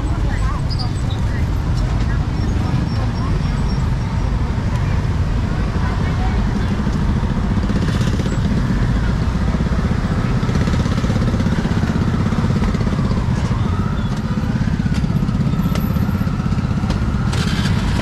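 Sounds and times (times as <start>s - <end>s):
motorbike engine running: 0.0s - 18.0s
street noise: 0.0s - 18.0s.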